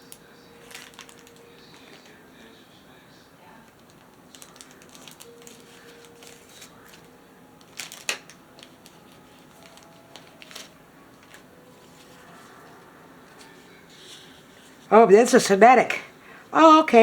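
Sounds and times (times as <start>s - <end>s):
kit contents clicking and rustling: 0.0s - 2.6s, 3.6s - 14.9s.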